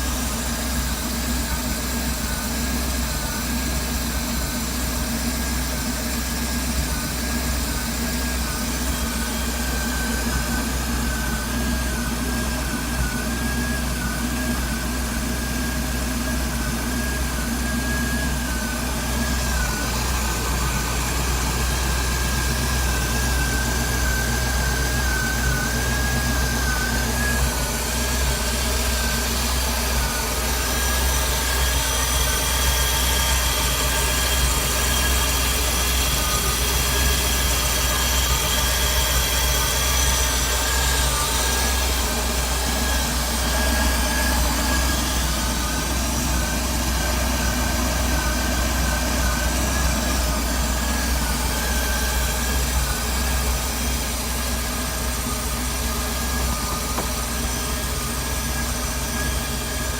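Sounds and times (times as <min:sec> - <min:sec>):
boat engine rumbling: 0:07.2 - 0:59.9.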